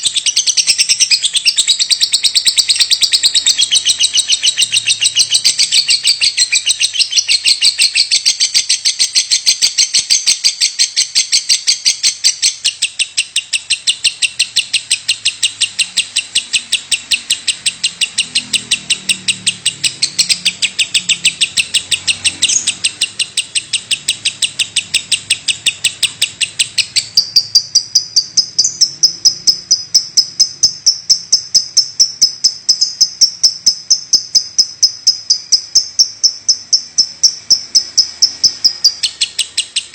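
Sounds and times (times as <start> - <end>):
lovebird chirping rapidly: 0.0 - 39.9.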